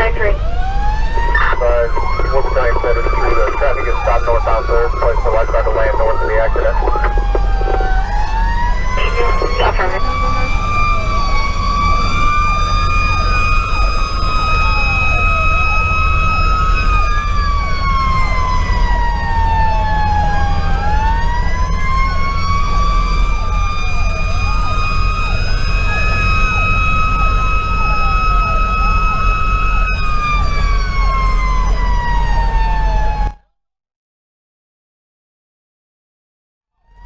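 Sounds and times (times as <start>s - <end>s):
truck engine rumble: 0.0s - 33.3s
electronic siren wailing: 0.0s - 33.4s.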